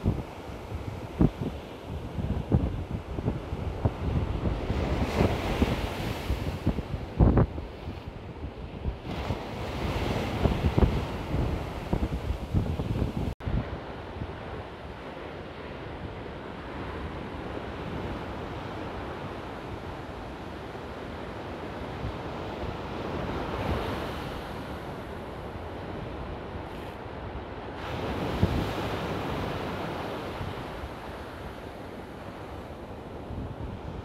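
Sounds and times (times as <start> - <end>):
ocean surf breaking: 0.0 - 8.2, 8.8 - 34.0
wind buffeting microphone: 0.0 - 34.0.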